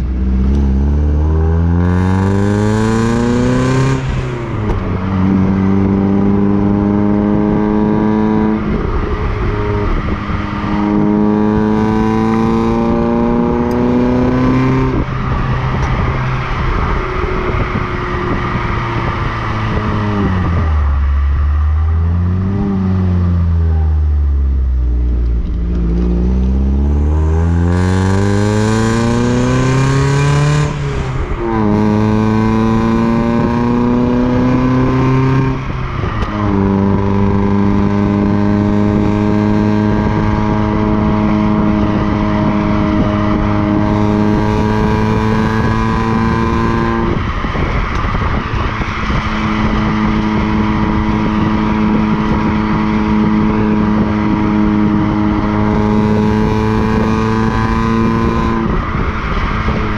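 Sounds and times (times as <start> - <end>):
car engine through exhaust while driving: 0.0 - 59.9.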